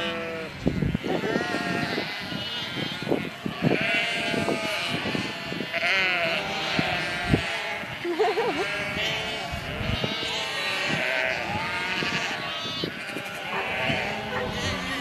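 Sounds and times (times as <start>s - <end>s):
sheep bleating: 0.0s - 15.0s.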